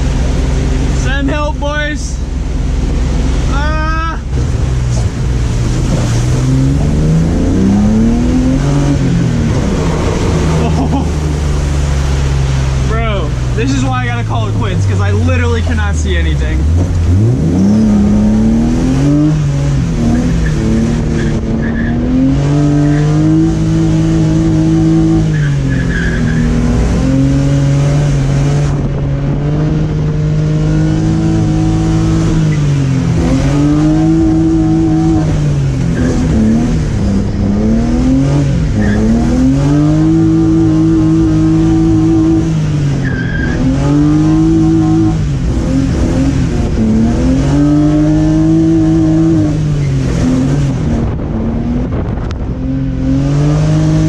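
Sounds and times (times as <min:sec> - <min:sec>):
car engine revving: 0:00.0 - 0:54.0
road and weather hiss: 0:00.0 - 0:54.0.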